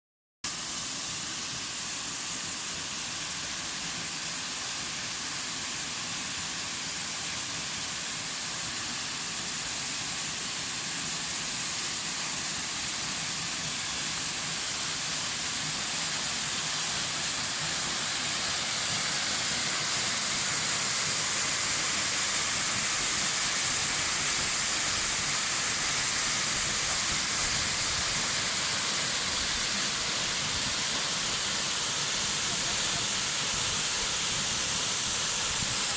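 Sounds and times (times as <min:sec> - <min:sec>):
waterfall rushing: 0:00.6 - 0:35.9.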